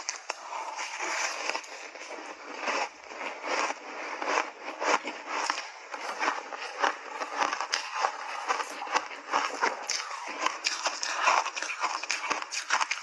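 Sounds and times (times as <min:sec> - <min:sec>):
ice being chewed with crunches: 0:00.0 - 0:13.0.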